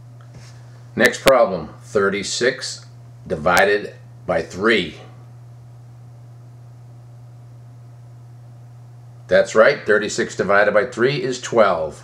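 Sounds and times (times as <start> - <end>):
low hum with faint hiss: 0.0 - 12.0.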